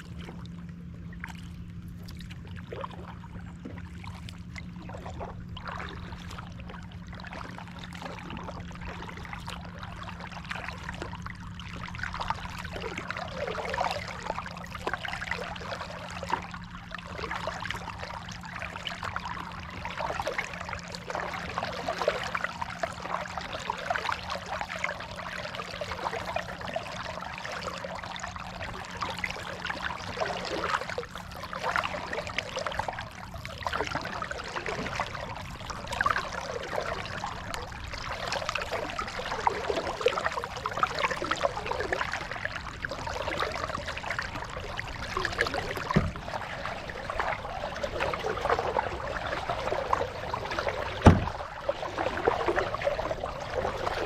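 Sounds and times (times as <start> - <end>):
steady low hum: 0.0 - 54.0
water splashing around kayak: 0.0 - 54.0.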